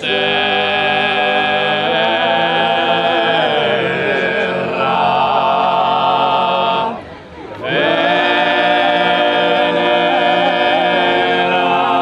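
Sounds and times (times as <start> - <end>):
choir singing in harmony: 0.0 - 7.0, 7.6 - 12.0.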